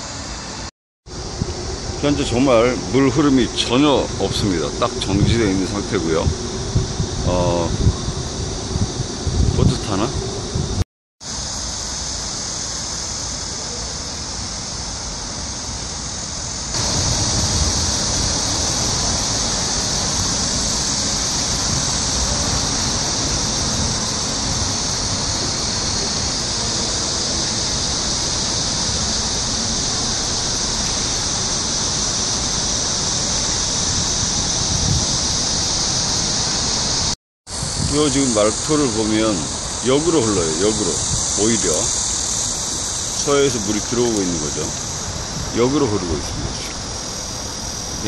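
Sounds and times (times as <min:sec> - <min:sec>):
low noisy rumble: 0:00.0 - 0:10.8, 0:11.5 - 0:48.0
insect chorus: 0:00.0 - 0:48.0.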